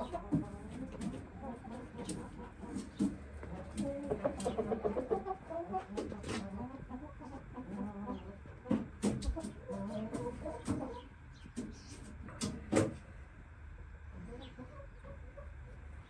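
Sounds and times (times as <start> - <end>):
chickens clucking softly: 0.0 - 16.0.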